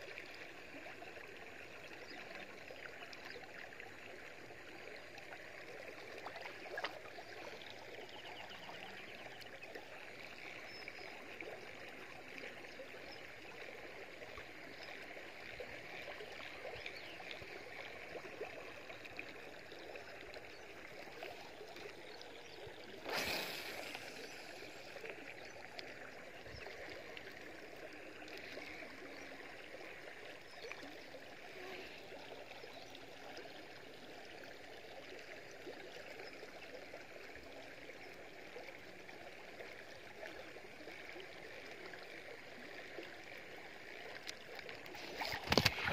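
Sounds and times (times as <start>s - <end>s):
river water flowing: 0.0s - 45.9s.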